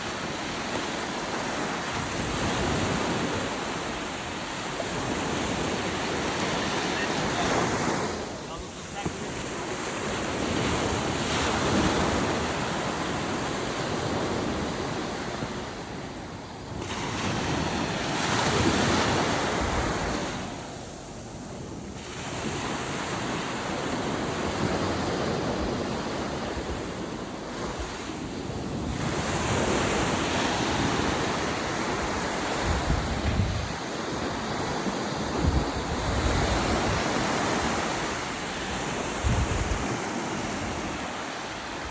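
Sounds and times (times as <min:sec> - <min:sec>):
surf breaking on beach: 0:00.0 - 0:41.9
wind buffeting microphone: 0:00.0 - 0:41.9.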